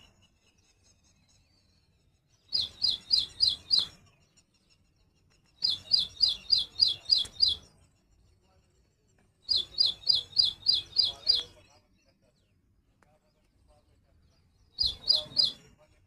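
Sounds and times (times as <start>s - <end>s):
hummingbird chirping: 0.0s - 12.6s, 14.2s - 15.9s.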